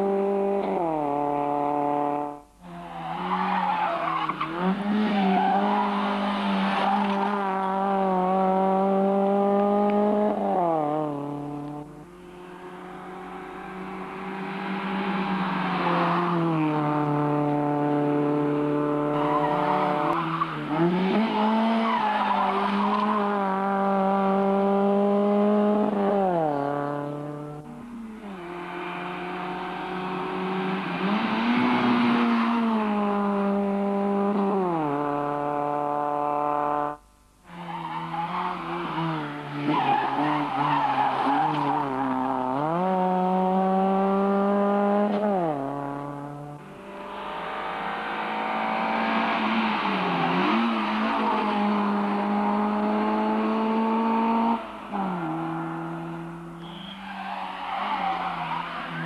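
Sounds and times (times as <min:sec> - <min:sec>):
rally car engines at hard throttle: 0:00.0 - 0:59.0.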